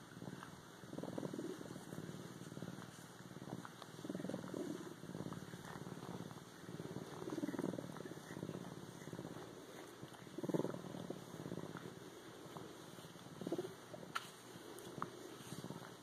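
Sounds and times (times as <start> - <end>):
bobcat purring: 0.0 - 16.0.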